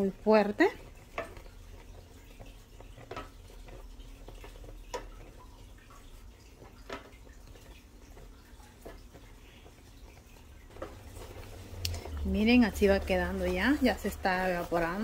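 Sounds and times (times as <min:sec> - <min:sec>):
liquid bubbling in a pan: 0:00.0 - 0:15.0.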